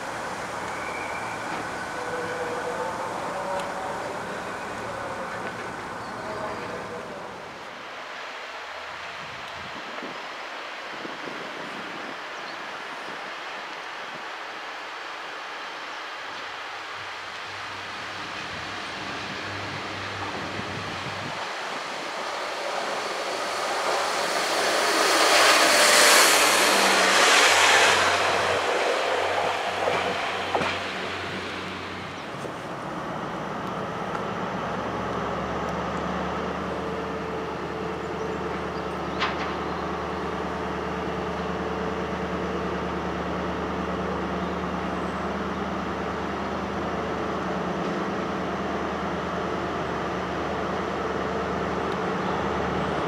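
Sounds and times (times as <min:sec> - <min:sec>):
diesel railbus passing: 0:00.0 - 0:53.0
low diesel train drone: 0:00.0 - 0:53.0.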